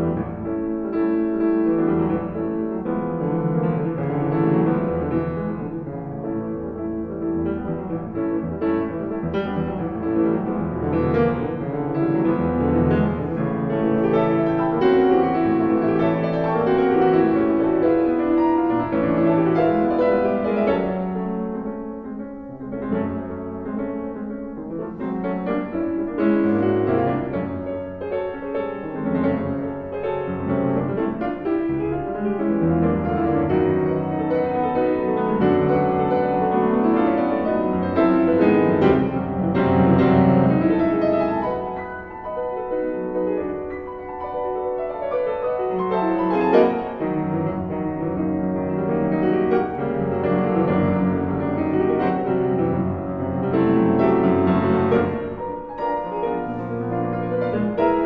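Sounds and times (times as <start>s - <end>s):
solo piano piece: 0.0s - 58.0s.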